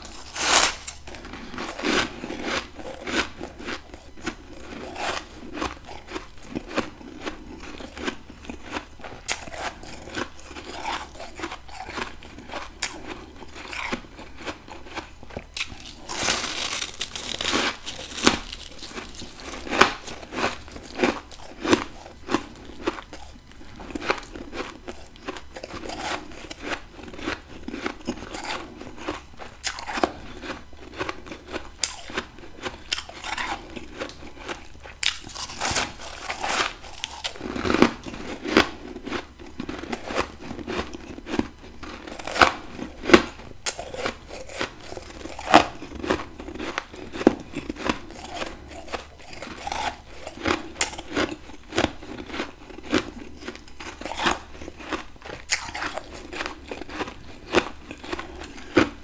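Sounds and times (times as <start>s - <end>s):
crunching and chewing frost: 0.0s - 59.0s.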